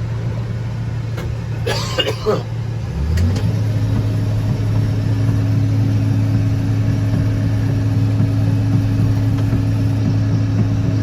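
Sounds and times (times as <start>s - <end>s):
combine harvester droning: 0.0s - 11.0s.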